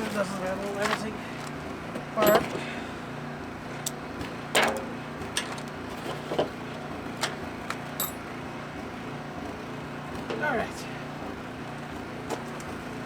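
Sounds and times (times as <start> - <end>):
small generator engine running: 0.0 - 13.0.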